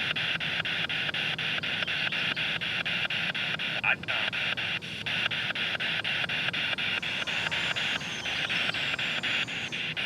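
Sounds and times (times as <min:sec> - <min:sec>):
pulsing radio static: 0:00.0 - 0:10.0.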